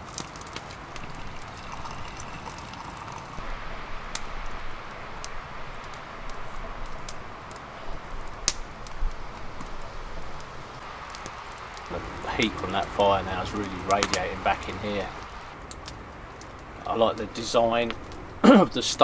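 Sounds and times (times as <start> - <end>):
campfire crackling: 0.0 - 19.0
fire sharp pops: 0.0 - 19.0
steady fire hiss: 0.0 - 19.0.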